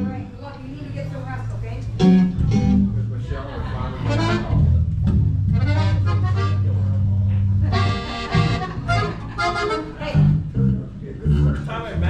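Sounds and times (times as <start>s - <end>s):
band chords: 1.9s - 12.0s.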